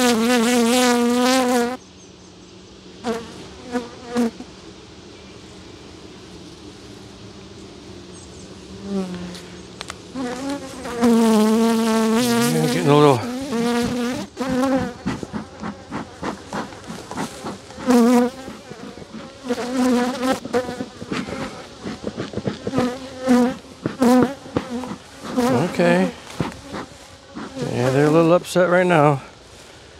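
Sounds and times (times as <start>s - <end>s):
bees buzzing past microphone: 0.0s - 1.8s, 2.8s - 28.4s
faint hum of bees: 0.0s - 29.9s.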